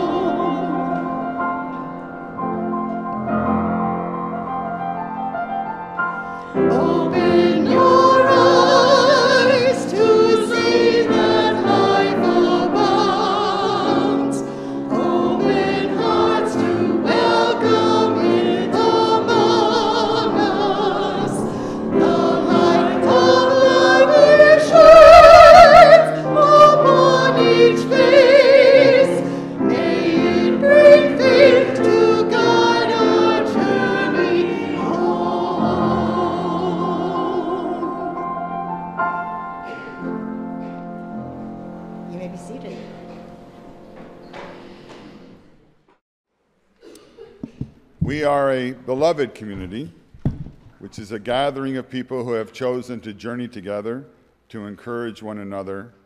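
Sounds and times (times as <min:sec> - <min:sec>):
congregation and choir singing hymn: 0:00.0 - 0:45.6
piano accompaniment: 0:00.0 - 0:45.8.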